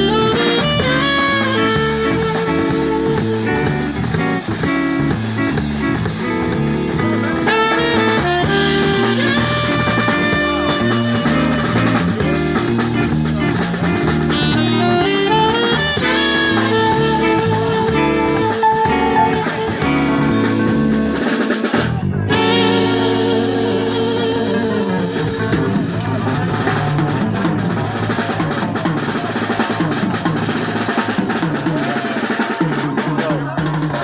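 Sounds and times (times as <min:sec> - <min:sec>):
live band playing instrumental: 0:00.0 - 0:34.0.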